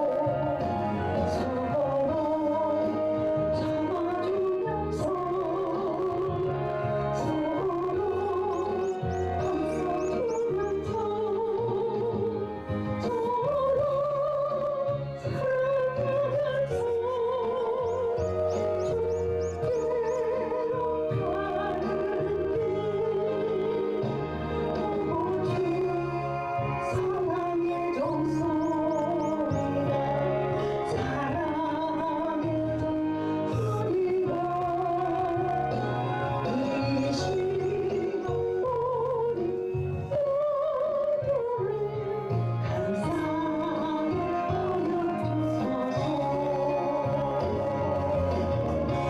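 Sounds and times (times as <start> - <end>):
person singing a hymn with vibrato: 0.0 - 49.0
slow gospel song: 0.0 - 49.0
steady bass accompaniment: 0.0 - 49.0.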